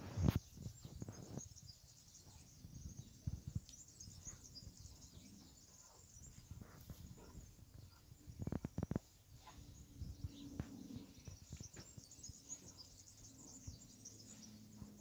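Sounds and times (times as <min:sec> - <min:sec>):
faint high chirping: 0:00.0 - 0:15.0.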